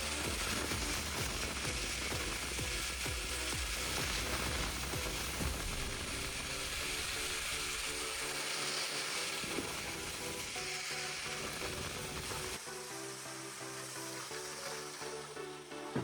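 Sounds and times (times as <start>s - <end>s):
background music: 0.0s - 16.0s
workshop tool hiss: 0.0s - 16.0s.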